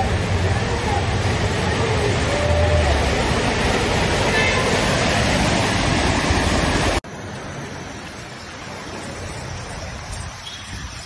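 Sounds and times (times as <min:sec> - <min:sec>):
car splashing through floodwater: 0:00.0 - 0:11.0.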